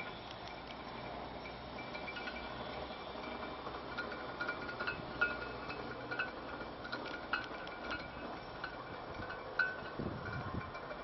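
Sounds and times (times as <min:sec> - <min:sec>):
wind buffeting microphone: 0:01.8 - 0:11.0.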